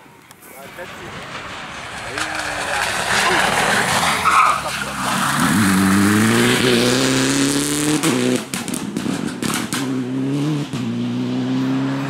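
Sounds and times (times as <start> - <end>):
rally car engine accelerating: 0.9 - 12.0.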